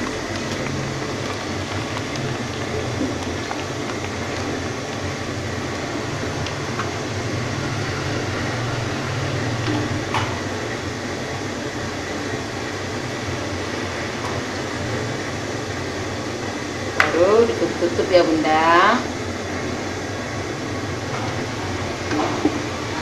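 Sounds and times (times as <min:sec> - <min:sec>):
stove burner hum and hiss: 0:00.0 - 0:23.0.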